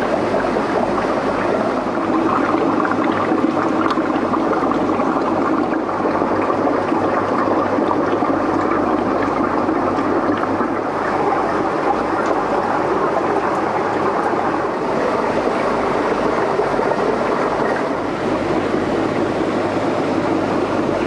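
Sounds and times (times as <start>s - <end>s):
aquarium water rushing and gurgling: 0.0s - 21.0s.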